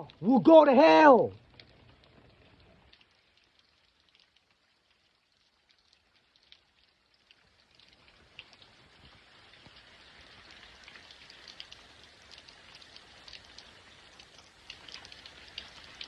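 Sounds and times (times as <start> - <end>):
rain drops pattering: 0.0 - 16.0.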